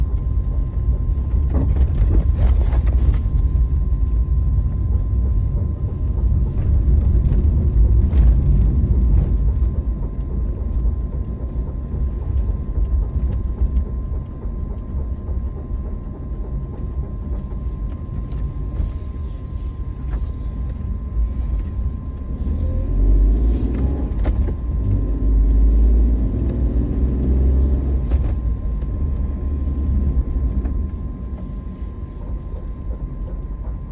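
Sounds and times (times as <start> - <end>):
van engine low rumble: 0.0 - 33.9.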